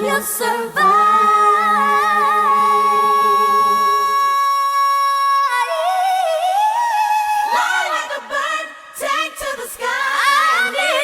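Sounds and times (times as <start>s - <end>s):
woman singing gospel: 0.0s - 11.0s.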